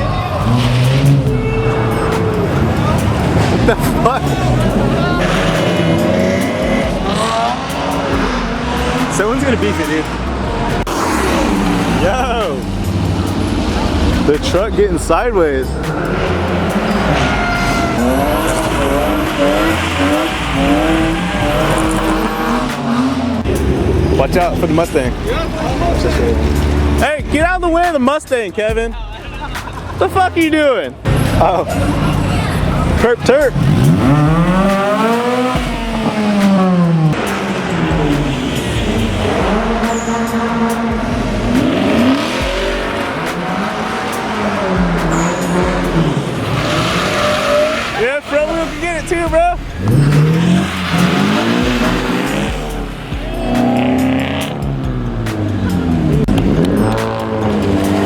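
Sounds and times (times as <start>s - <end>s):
truck engine revving: 0.0s - 28.1s, 29.5s - 58.0s
tyres squealing: 0.0s - 58.0s.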